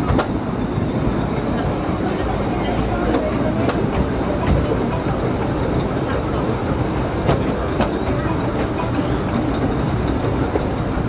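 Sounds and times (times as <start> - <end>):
train wheels rumbling on rail: 0.0 - 11.0
wheels clicking over rail joints: 0.0 - 11.0.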